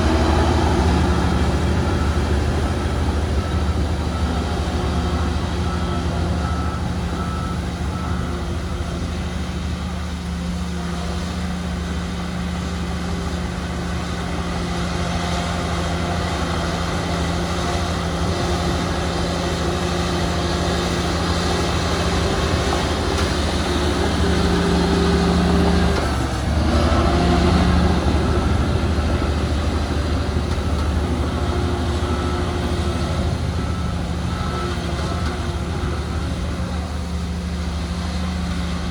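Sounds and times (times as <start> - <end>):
reversing alarm beeping: 0.0 - 10.5, 11.9 - 38.8
heavy diesel machinery running: 0.0 - 38.9.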